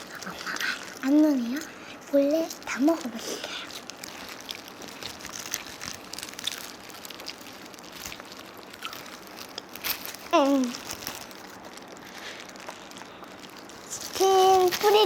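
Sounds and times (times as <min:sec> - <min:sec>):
fried chicken crunching: 0:00.0 - 0:15.0.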